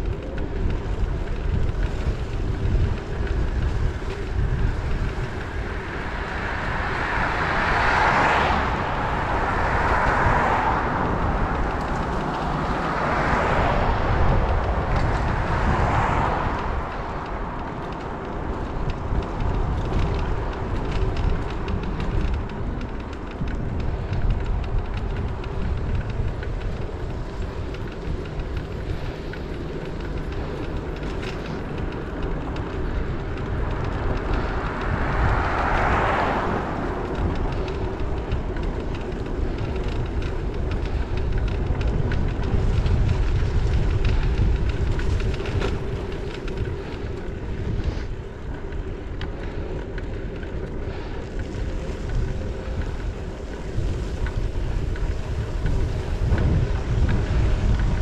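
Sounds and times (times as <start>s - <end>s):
vehicle passing: 0.0s - 58.0s
wind rumbling on microphone: 0.0s - 58.0s.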